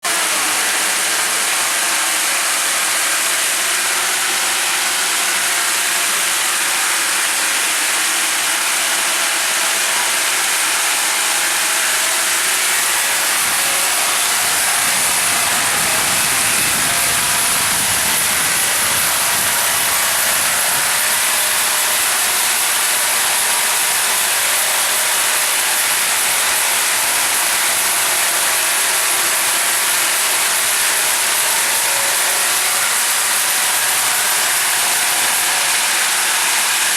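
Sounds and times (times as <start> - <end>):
band saw cutting log: 0.0 - 36.9.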